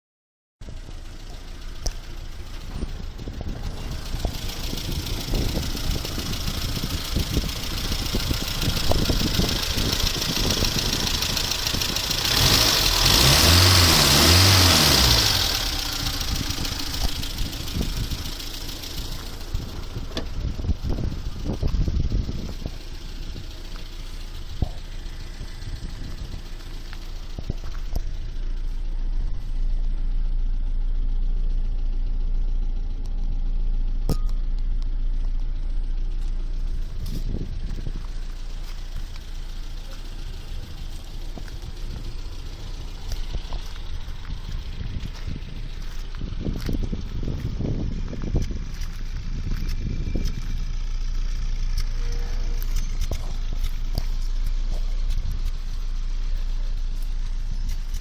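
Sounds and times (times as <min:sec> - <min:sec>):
car engine idling and revving: 0:00.6 - 0:58.0.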